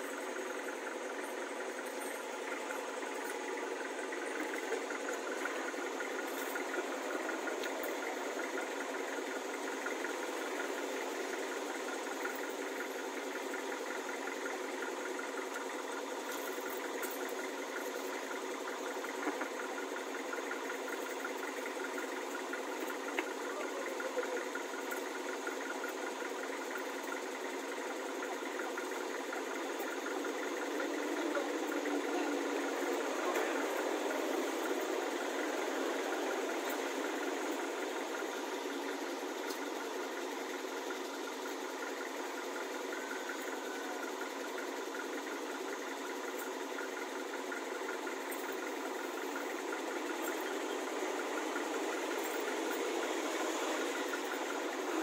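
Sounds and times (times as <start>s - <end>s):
steady engine-like drone: 0.0s - 55.0s.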